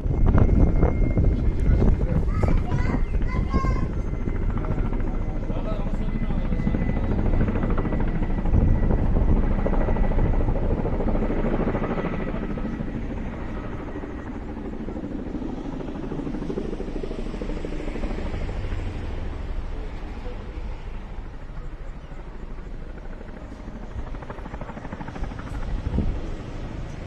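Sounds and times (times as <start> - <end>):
helicopter rotor chopping: 0.0 - 27.0.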